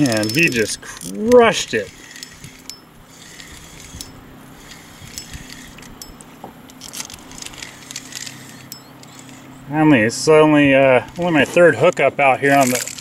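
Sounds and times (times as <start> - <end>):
fishing reel clicking: 0.0 - 9.5, 11.1 - 13.0
wind: 0.0 - 13.0.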